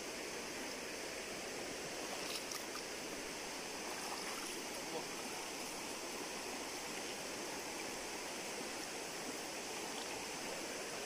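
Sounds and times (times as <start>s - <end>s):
river flowing over stones: 0.0s - 11.0s.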